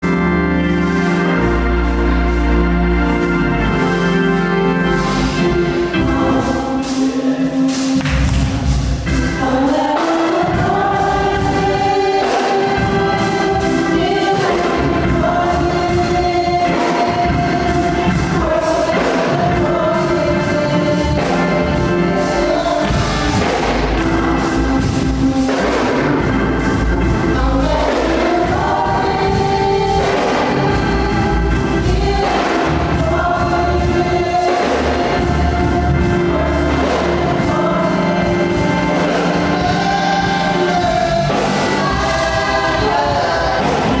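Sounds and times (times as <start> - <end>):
gospel choir singing: 0.0 - 44.0
instrumental accompaniment: 0.0 - 44.0.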